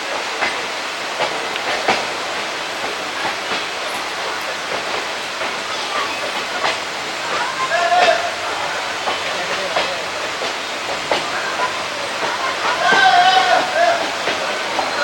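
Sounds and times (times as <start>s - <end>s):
train coach rumble and hiss: 0.0s - 15.0s
wheels clicking over rail joints: 0.0s - 15.0s.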